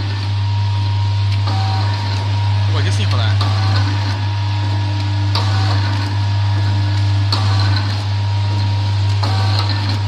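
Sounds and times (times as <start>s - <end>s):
packaging machine humming: 0.0s - 10.0s.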